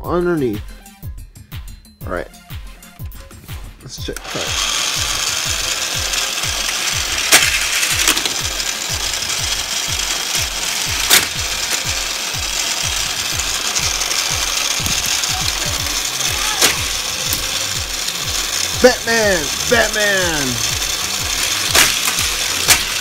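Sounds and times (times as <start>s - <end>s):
motorized toy track booster pulsing: 4.1s - 23.0s
toy cars clacking on plastic track: 4.2s - 23.0s.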